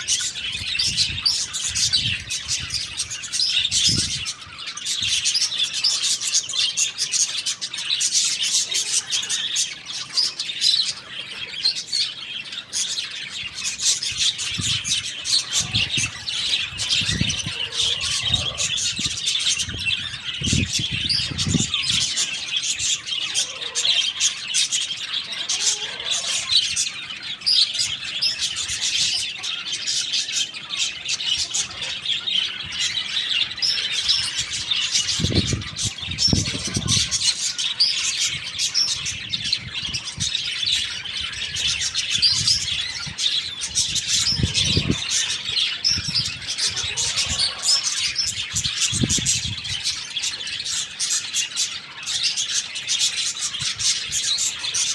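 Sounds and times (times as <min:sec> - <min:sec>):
high-pitched bird chirping: 0:00.0 - 0:54.9.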